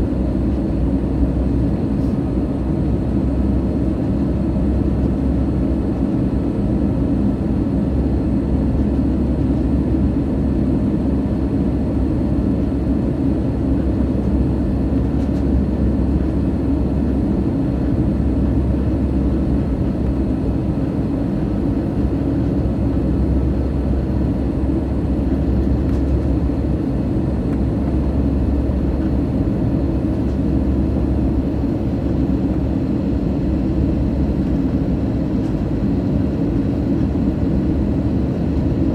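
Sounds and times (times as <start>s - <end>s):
airflow and jet engine rumble: 0.0s - 38.9s.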